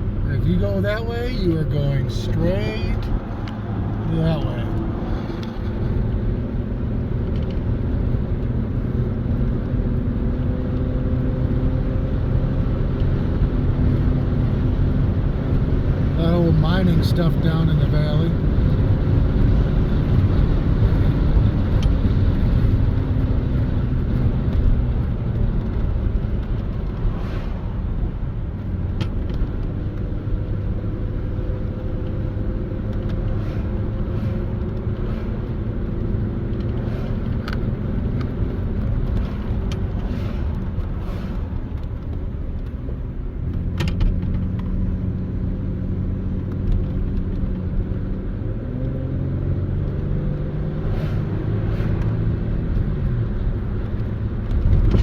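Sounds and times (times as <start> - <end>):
car engine: 0.0 - 55.0
road noise: 0.0 - 55.0.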